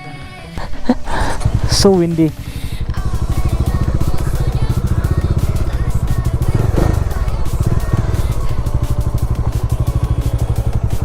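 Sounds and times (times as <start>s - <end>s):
motorcycle engine running: 0.7s - 11.0s.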